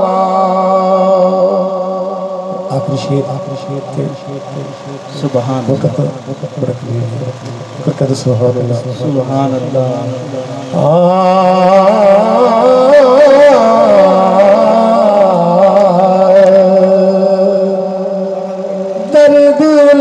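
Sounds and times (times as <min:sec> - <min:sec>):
man singing through loudspeaker: 0:00.0 - 0:20.0.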